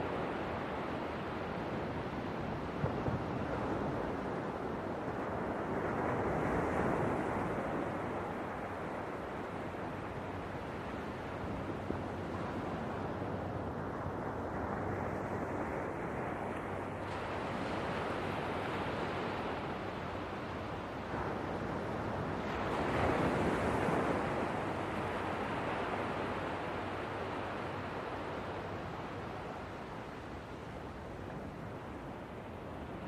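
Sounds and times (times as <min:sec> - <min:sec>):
ocean waves surf: 0:00.0 - 0:33.0.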